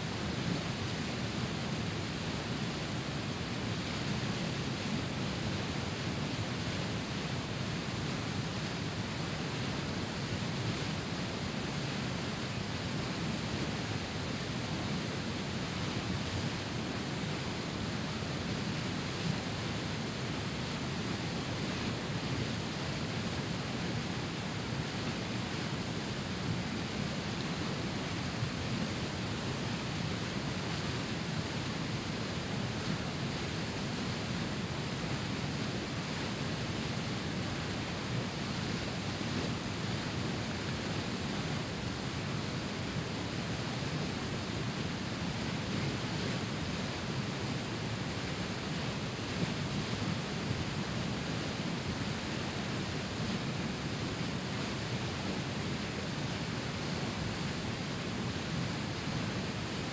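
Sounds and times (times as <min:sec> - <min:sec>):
rushing river rapids: 0:00.1 - 0:59.9.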